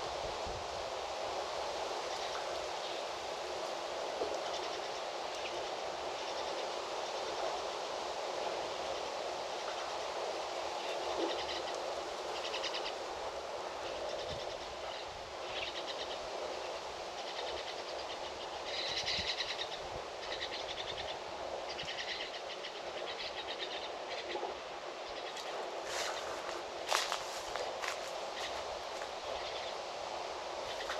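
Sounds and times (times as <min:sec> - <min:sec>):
steady background hiss: 0:00.0 - 0:30.9.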